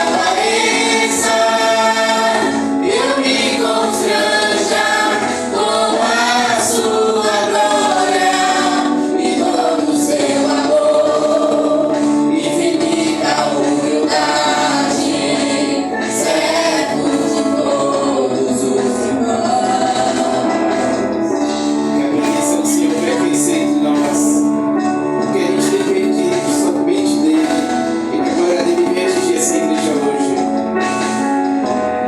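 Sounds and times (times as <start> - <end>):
group of voices singing worship: 0.0 - 24.5, 25.3 - 30.4.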